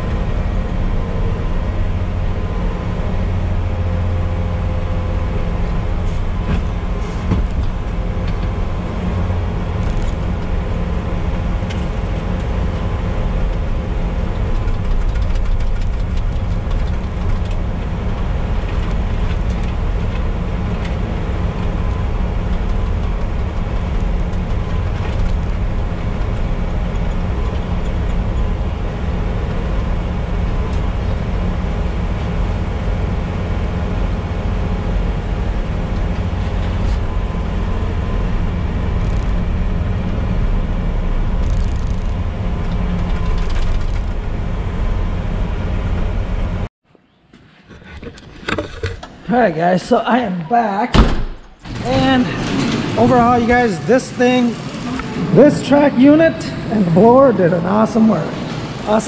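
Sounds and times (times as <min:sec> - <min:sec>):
diesel engine droning: 0:00.0 - 0:46.7, 0:51.5 - 0:59.0.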